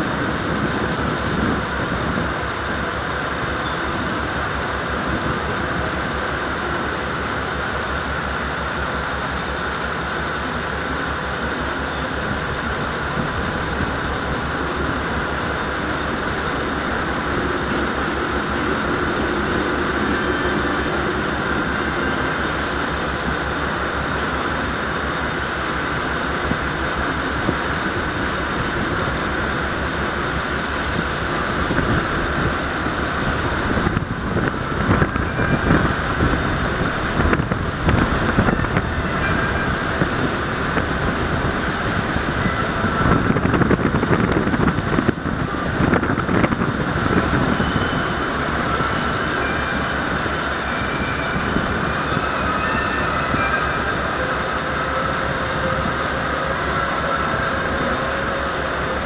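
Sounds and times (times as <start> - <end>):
diesel railcar engine idling: 0.0 - 59.0
loud uneven noise: 0.0 - 59.0.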